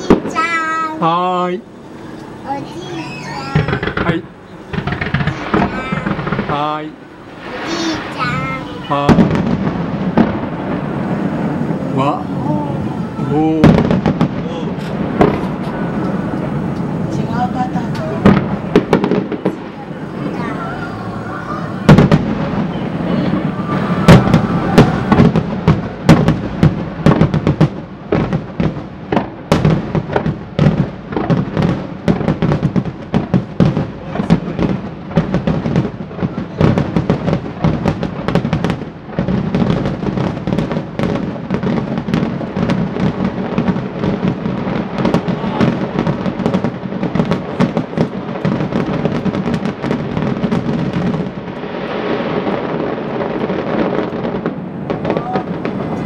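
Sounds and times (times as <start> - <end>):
constant rumble: 0.0 - 51.7, 53.0 - 56.0
fireworks booming: 0.0 - 56.0.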